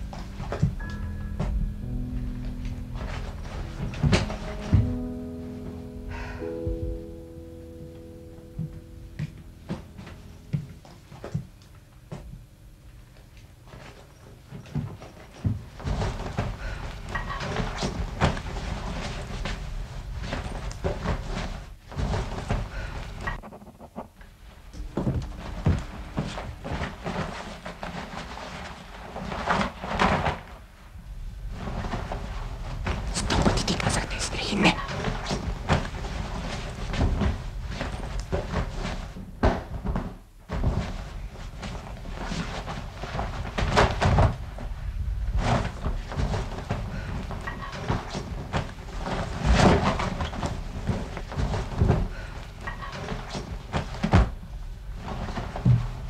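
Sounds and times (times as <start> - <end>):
clothing rustling: 0.0 - 12.3, 13.3 - 56.0.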